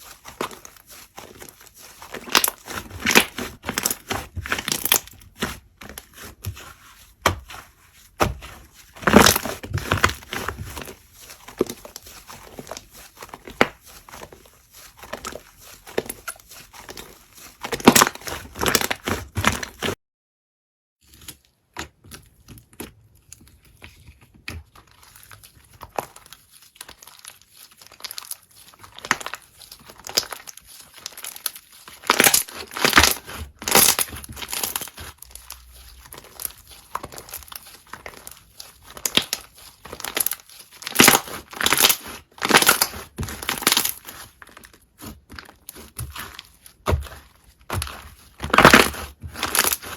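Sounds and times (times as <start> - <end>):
slime crackling and popping: 0.1 - 6.6, 8.2 - 14.0, 14.8 - 19.9, 24.4 - 49.9.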